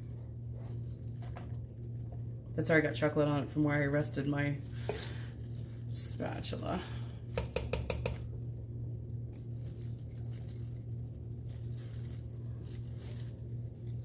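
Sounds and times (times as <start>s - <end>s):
low steady hum: 0.0s - 14.0s
scraping thick mixture: 0.0s - 14.0s.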